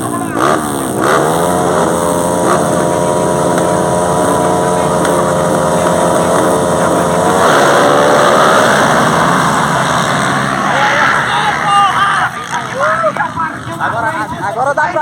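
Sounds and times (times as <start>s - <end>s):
motocross motorcycle engines revving: 0.0s - 15.0s.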